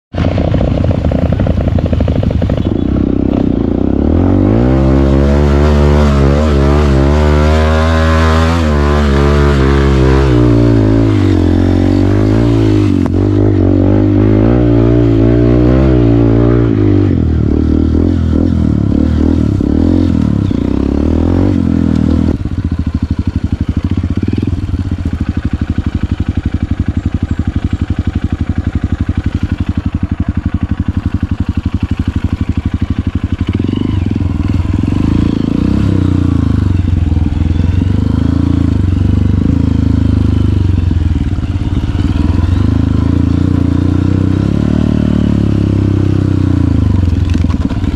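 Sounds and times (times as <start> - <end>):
dirt bike engine revving: 0.2 - 47.9.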